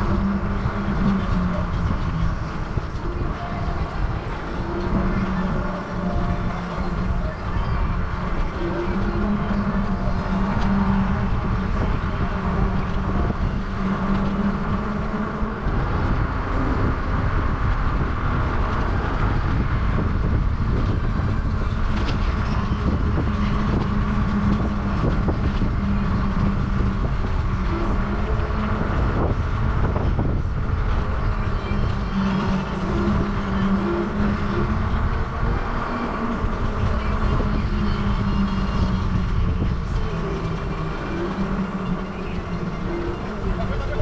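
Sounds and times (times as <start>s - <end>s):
steady low hum: 0.0s - 44.0s
wind rushing over microphone: 0.0s - 44.0s.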